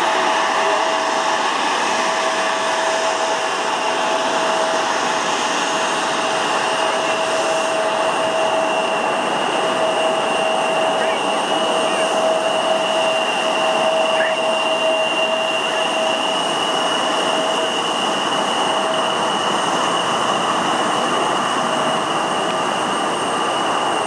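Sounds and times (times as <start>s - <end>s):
jet engines whining at taxi power: 0.0s - 24.0s.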